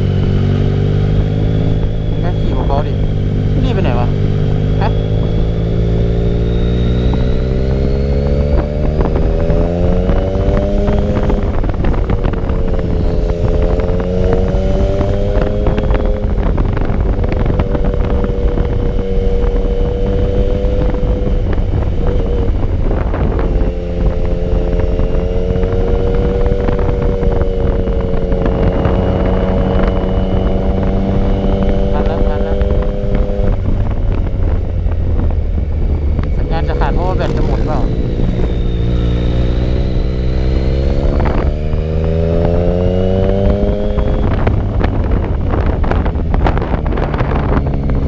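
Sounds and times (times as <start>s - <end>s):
motorcycle engine revving: 0.0s - 48.0s
wind on microphone: 0.0s - 48.0s.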